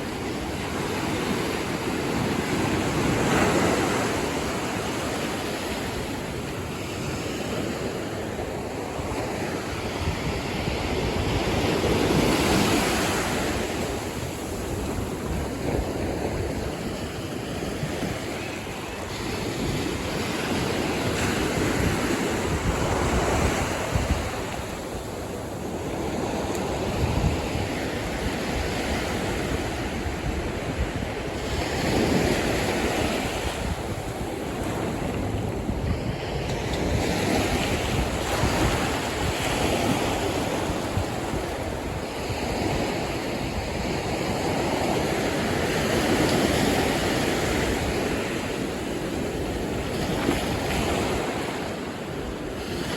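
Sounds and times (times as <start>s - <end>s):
ocean surf breaking on beach: 0.0s - 52.9s
wind buffeting microphone: 0.0s - 52.9s.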